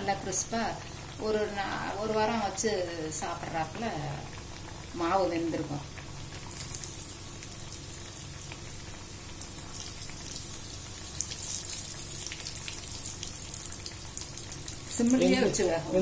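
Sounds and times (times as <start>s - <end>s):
dough deep-frying in oil: 0.0s - 16.0s.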